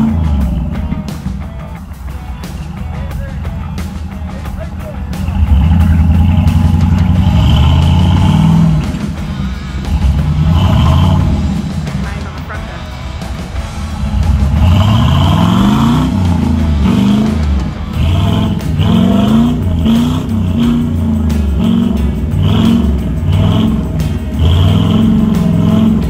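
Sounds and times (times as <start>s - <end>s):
engine revving in short bursts: 0.0s - 1.4s, 3.8s - 12.1s, 13.2s - 26.0s.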